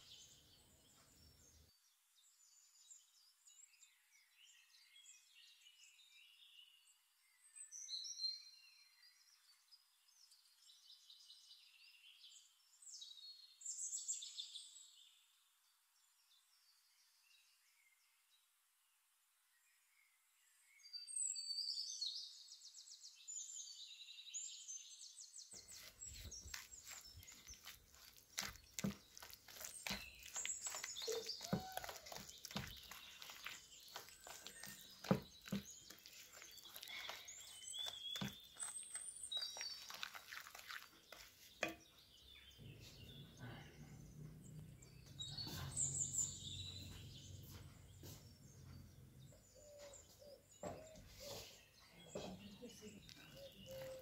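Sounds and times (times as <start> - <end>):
small birds chirping: 0.0 - 18.5, 19.5 - 54.0.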